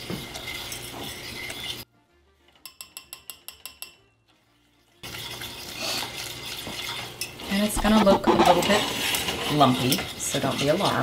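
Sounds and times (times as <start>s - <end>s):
whisk scraping in a metal saucepan: 0.0s - 1.9s, 2.5s - 11.0s.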